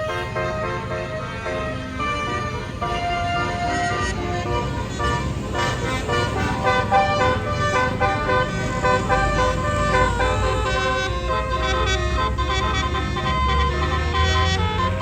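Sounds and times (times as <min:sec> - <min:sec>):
bus multi-tone horn tune: 0:00.0 - 0:15.0
diesel engine running: 0:00.0 - 0:15.0.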